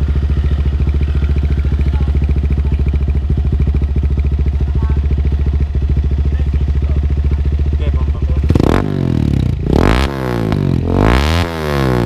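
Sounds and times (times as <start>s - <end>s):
motorcycle idling: 0.0s - 12.0s.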